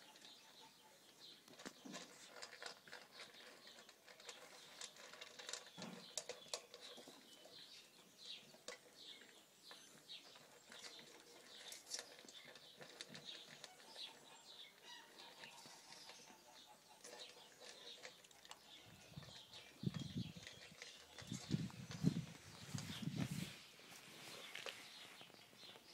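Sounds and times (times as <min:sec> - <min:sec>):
dog crunching dry kibble: 0:01.5 - 0:23.2.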